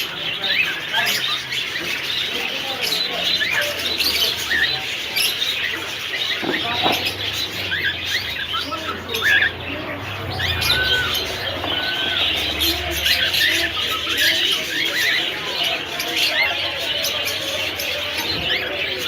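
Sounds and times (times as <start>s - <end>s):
parrots chirping and calling: 0.0s - 19.0s.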